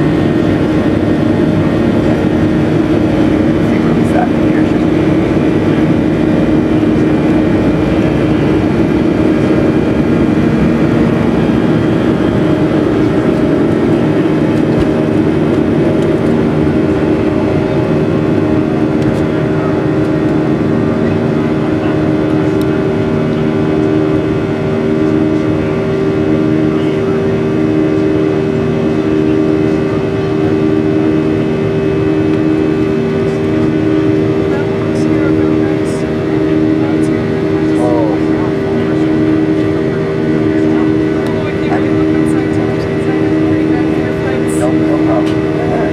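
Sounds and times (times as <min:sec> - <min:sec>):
jet engines roaring in cabin: 0:00.0 - 0:45.9
pulsing engine drone: 0:00.0 - 0:45.9.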